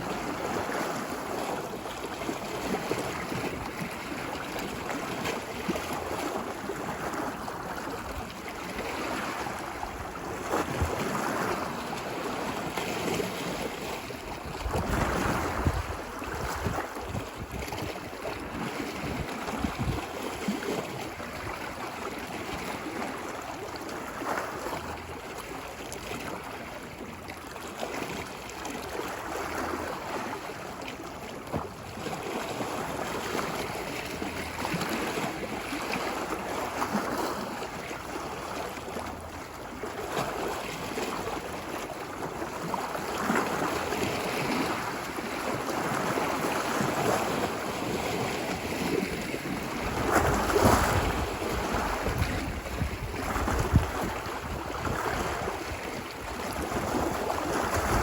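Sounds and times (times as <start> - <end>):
ocean waves washing ashore: 0.0 - 58.0.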